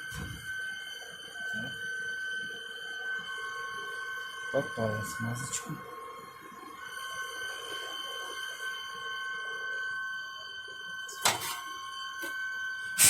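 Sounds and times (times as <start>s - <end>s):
high-pitched hum: 0.0s - 13.0s.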